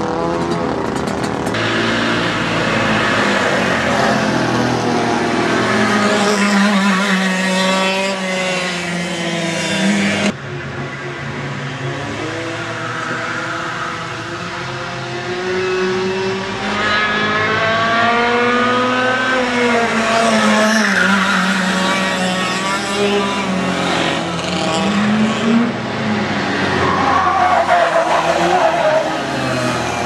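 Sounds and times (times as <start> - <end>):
racing karts passing by: 0.0 - 30.0.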